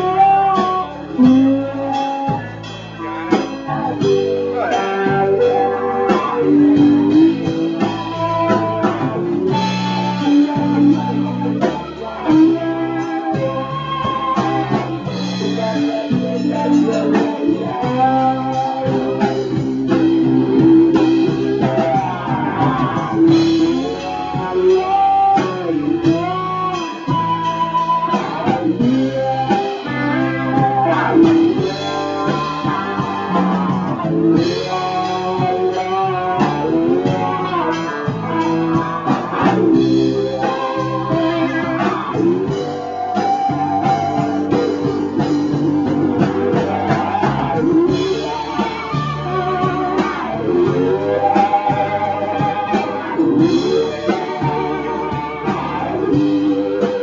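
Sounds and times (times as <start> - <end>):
live blues band with guitar: 0.0 - 57.0.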